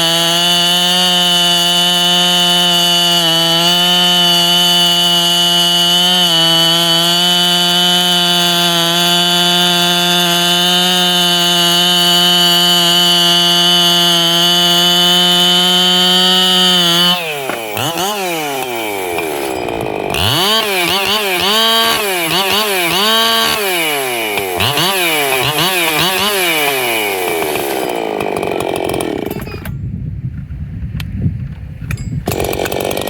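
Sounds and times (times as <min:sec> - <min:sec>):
chainsaw revving: 0:00.0 - 0:29.7, 0:32.3 - 0:33.0.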